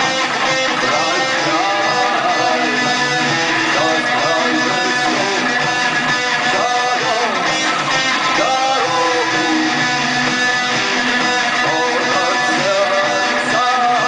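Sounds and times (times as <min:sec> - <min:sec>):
lead guitar with bent notes: 0:00.0 - 0:14.0
strummed guitar: 0:00.0 - 0:14.0.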